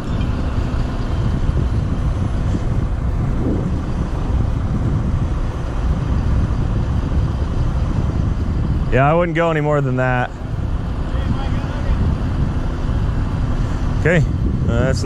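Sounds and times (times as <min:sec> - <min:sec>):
heavy diesel engines rumbling: 0:00.0 - 0:15.0.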